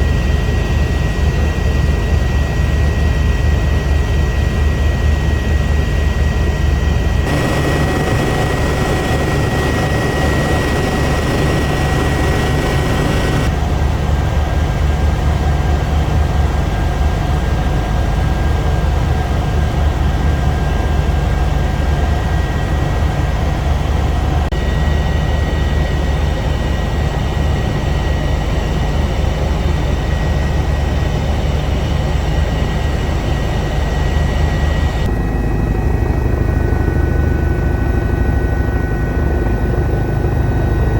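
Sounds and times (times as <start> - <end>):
helicopter rotor and engines: 0.0 - 40.9.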